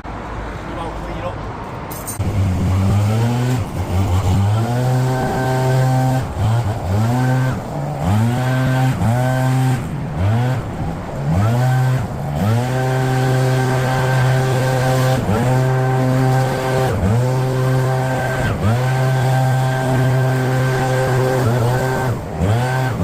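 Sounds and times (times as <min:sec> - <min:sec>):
two-stroke garden tool engine revving: 0:02.2 - 0:23.0.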